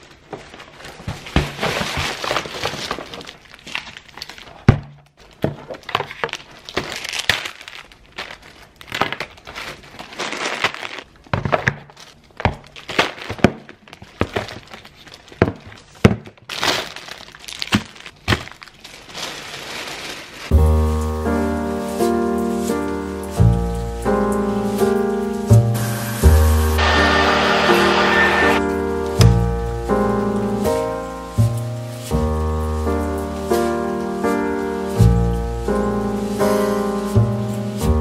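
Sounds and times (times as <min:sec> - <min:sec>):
plastic bags rustling: 0:00.0 - 0:38.0.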